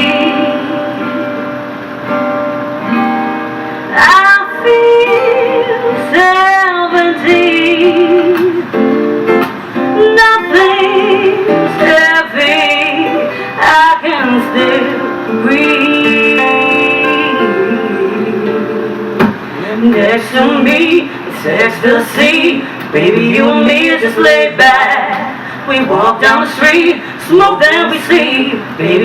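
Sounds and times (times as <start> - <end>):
live pop band playing: 0.0 - 29.0.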